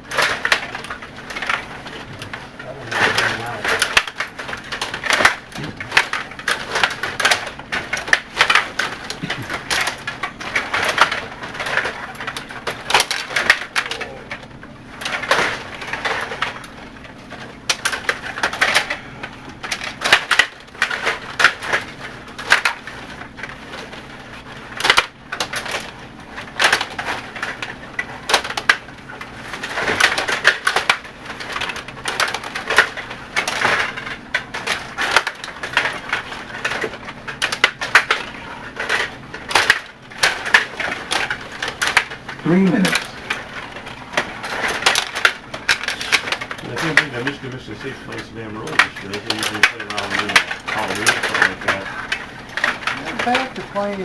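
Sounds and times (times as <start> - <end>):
table hockey plastic clattering: 0.0 - 54.0.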